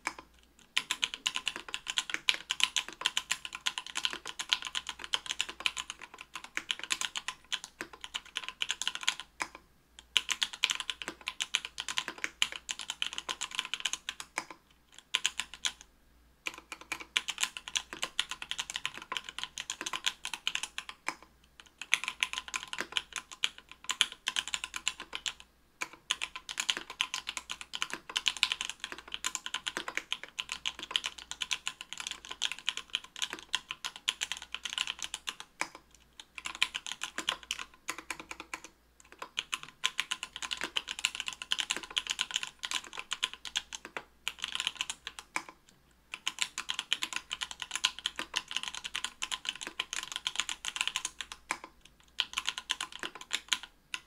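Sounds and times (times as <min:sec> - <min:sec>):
typing on a mechanical keyboard: 0:00.0 - 0:54.0.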